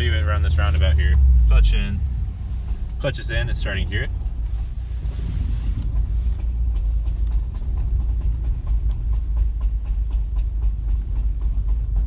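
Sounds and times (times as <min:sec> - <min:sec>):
car rolling low rumble: 0:00.0 - 0:12.0
light clicking thuds: 0:02.0 - 0:12.0.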